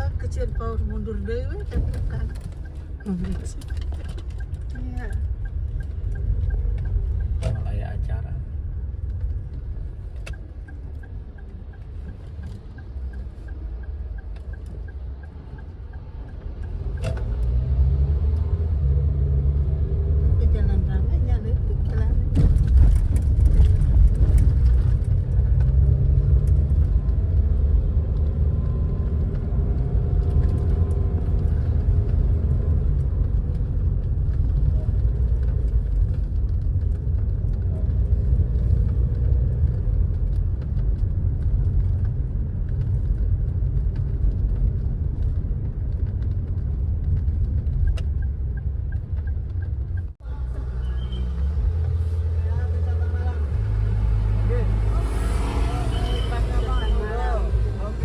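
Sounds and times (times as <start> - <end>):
car engine and tyres rumble: 0.0 - 58.0.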